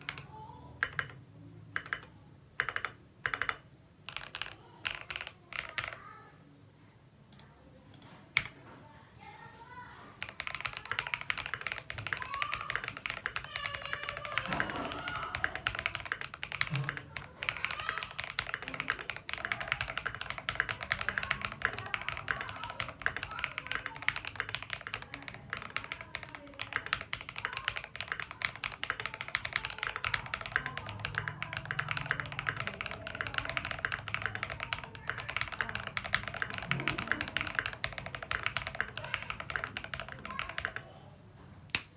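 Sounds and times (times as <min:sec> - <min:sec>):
mechanical keyboard typing: 0:00.0 - 0:01.2, 0:01.8 - 0:06.1, 0:07.3 - 0:08.6, 0:10.2 - 0:40.9.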